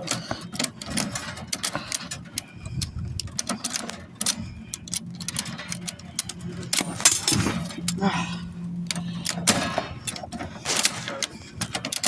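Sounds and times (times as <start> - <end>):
vending machine crank clicking: 0.0 - 12.0.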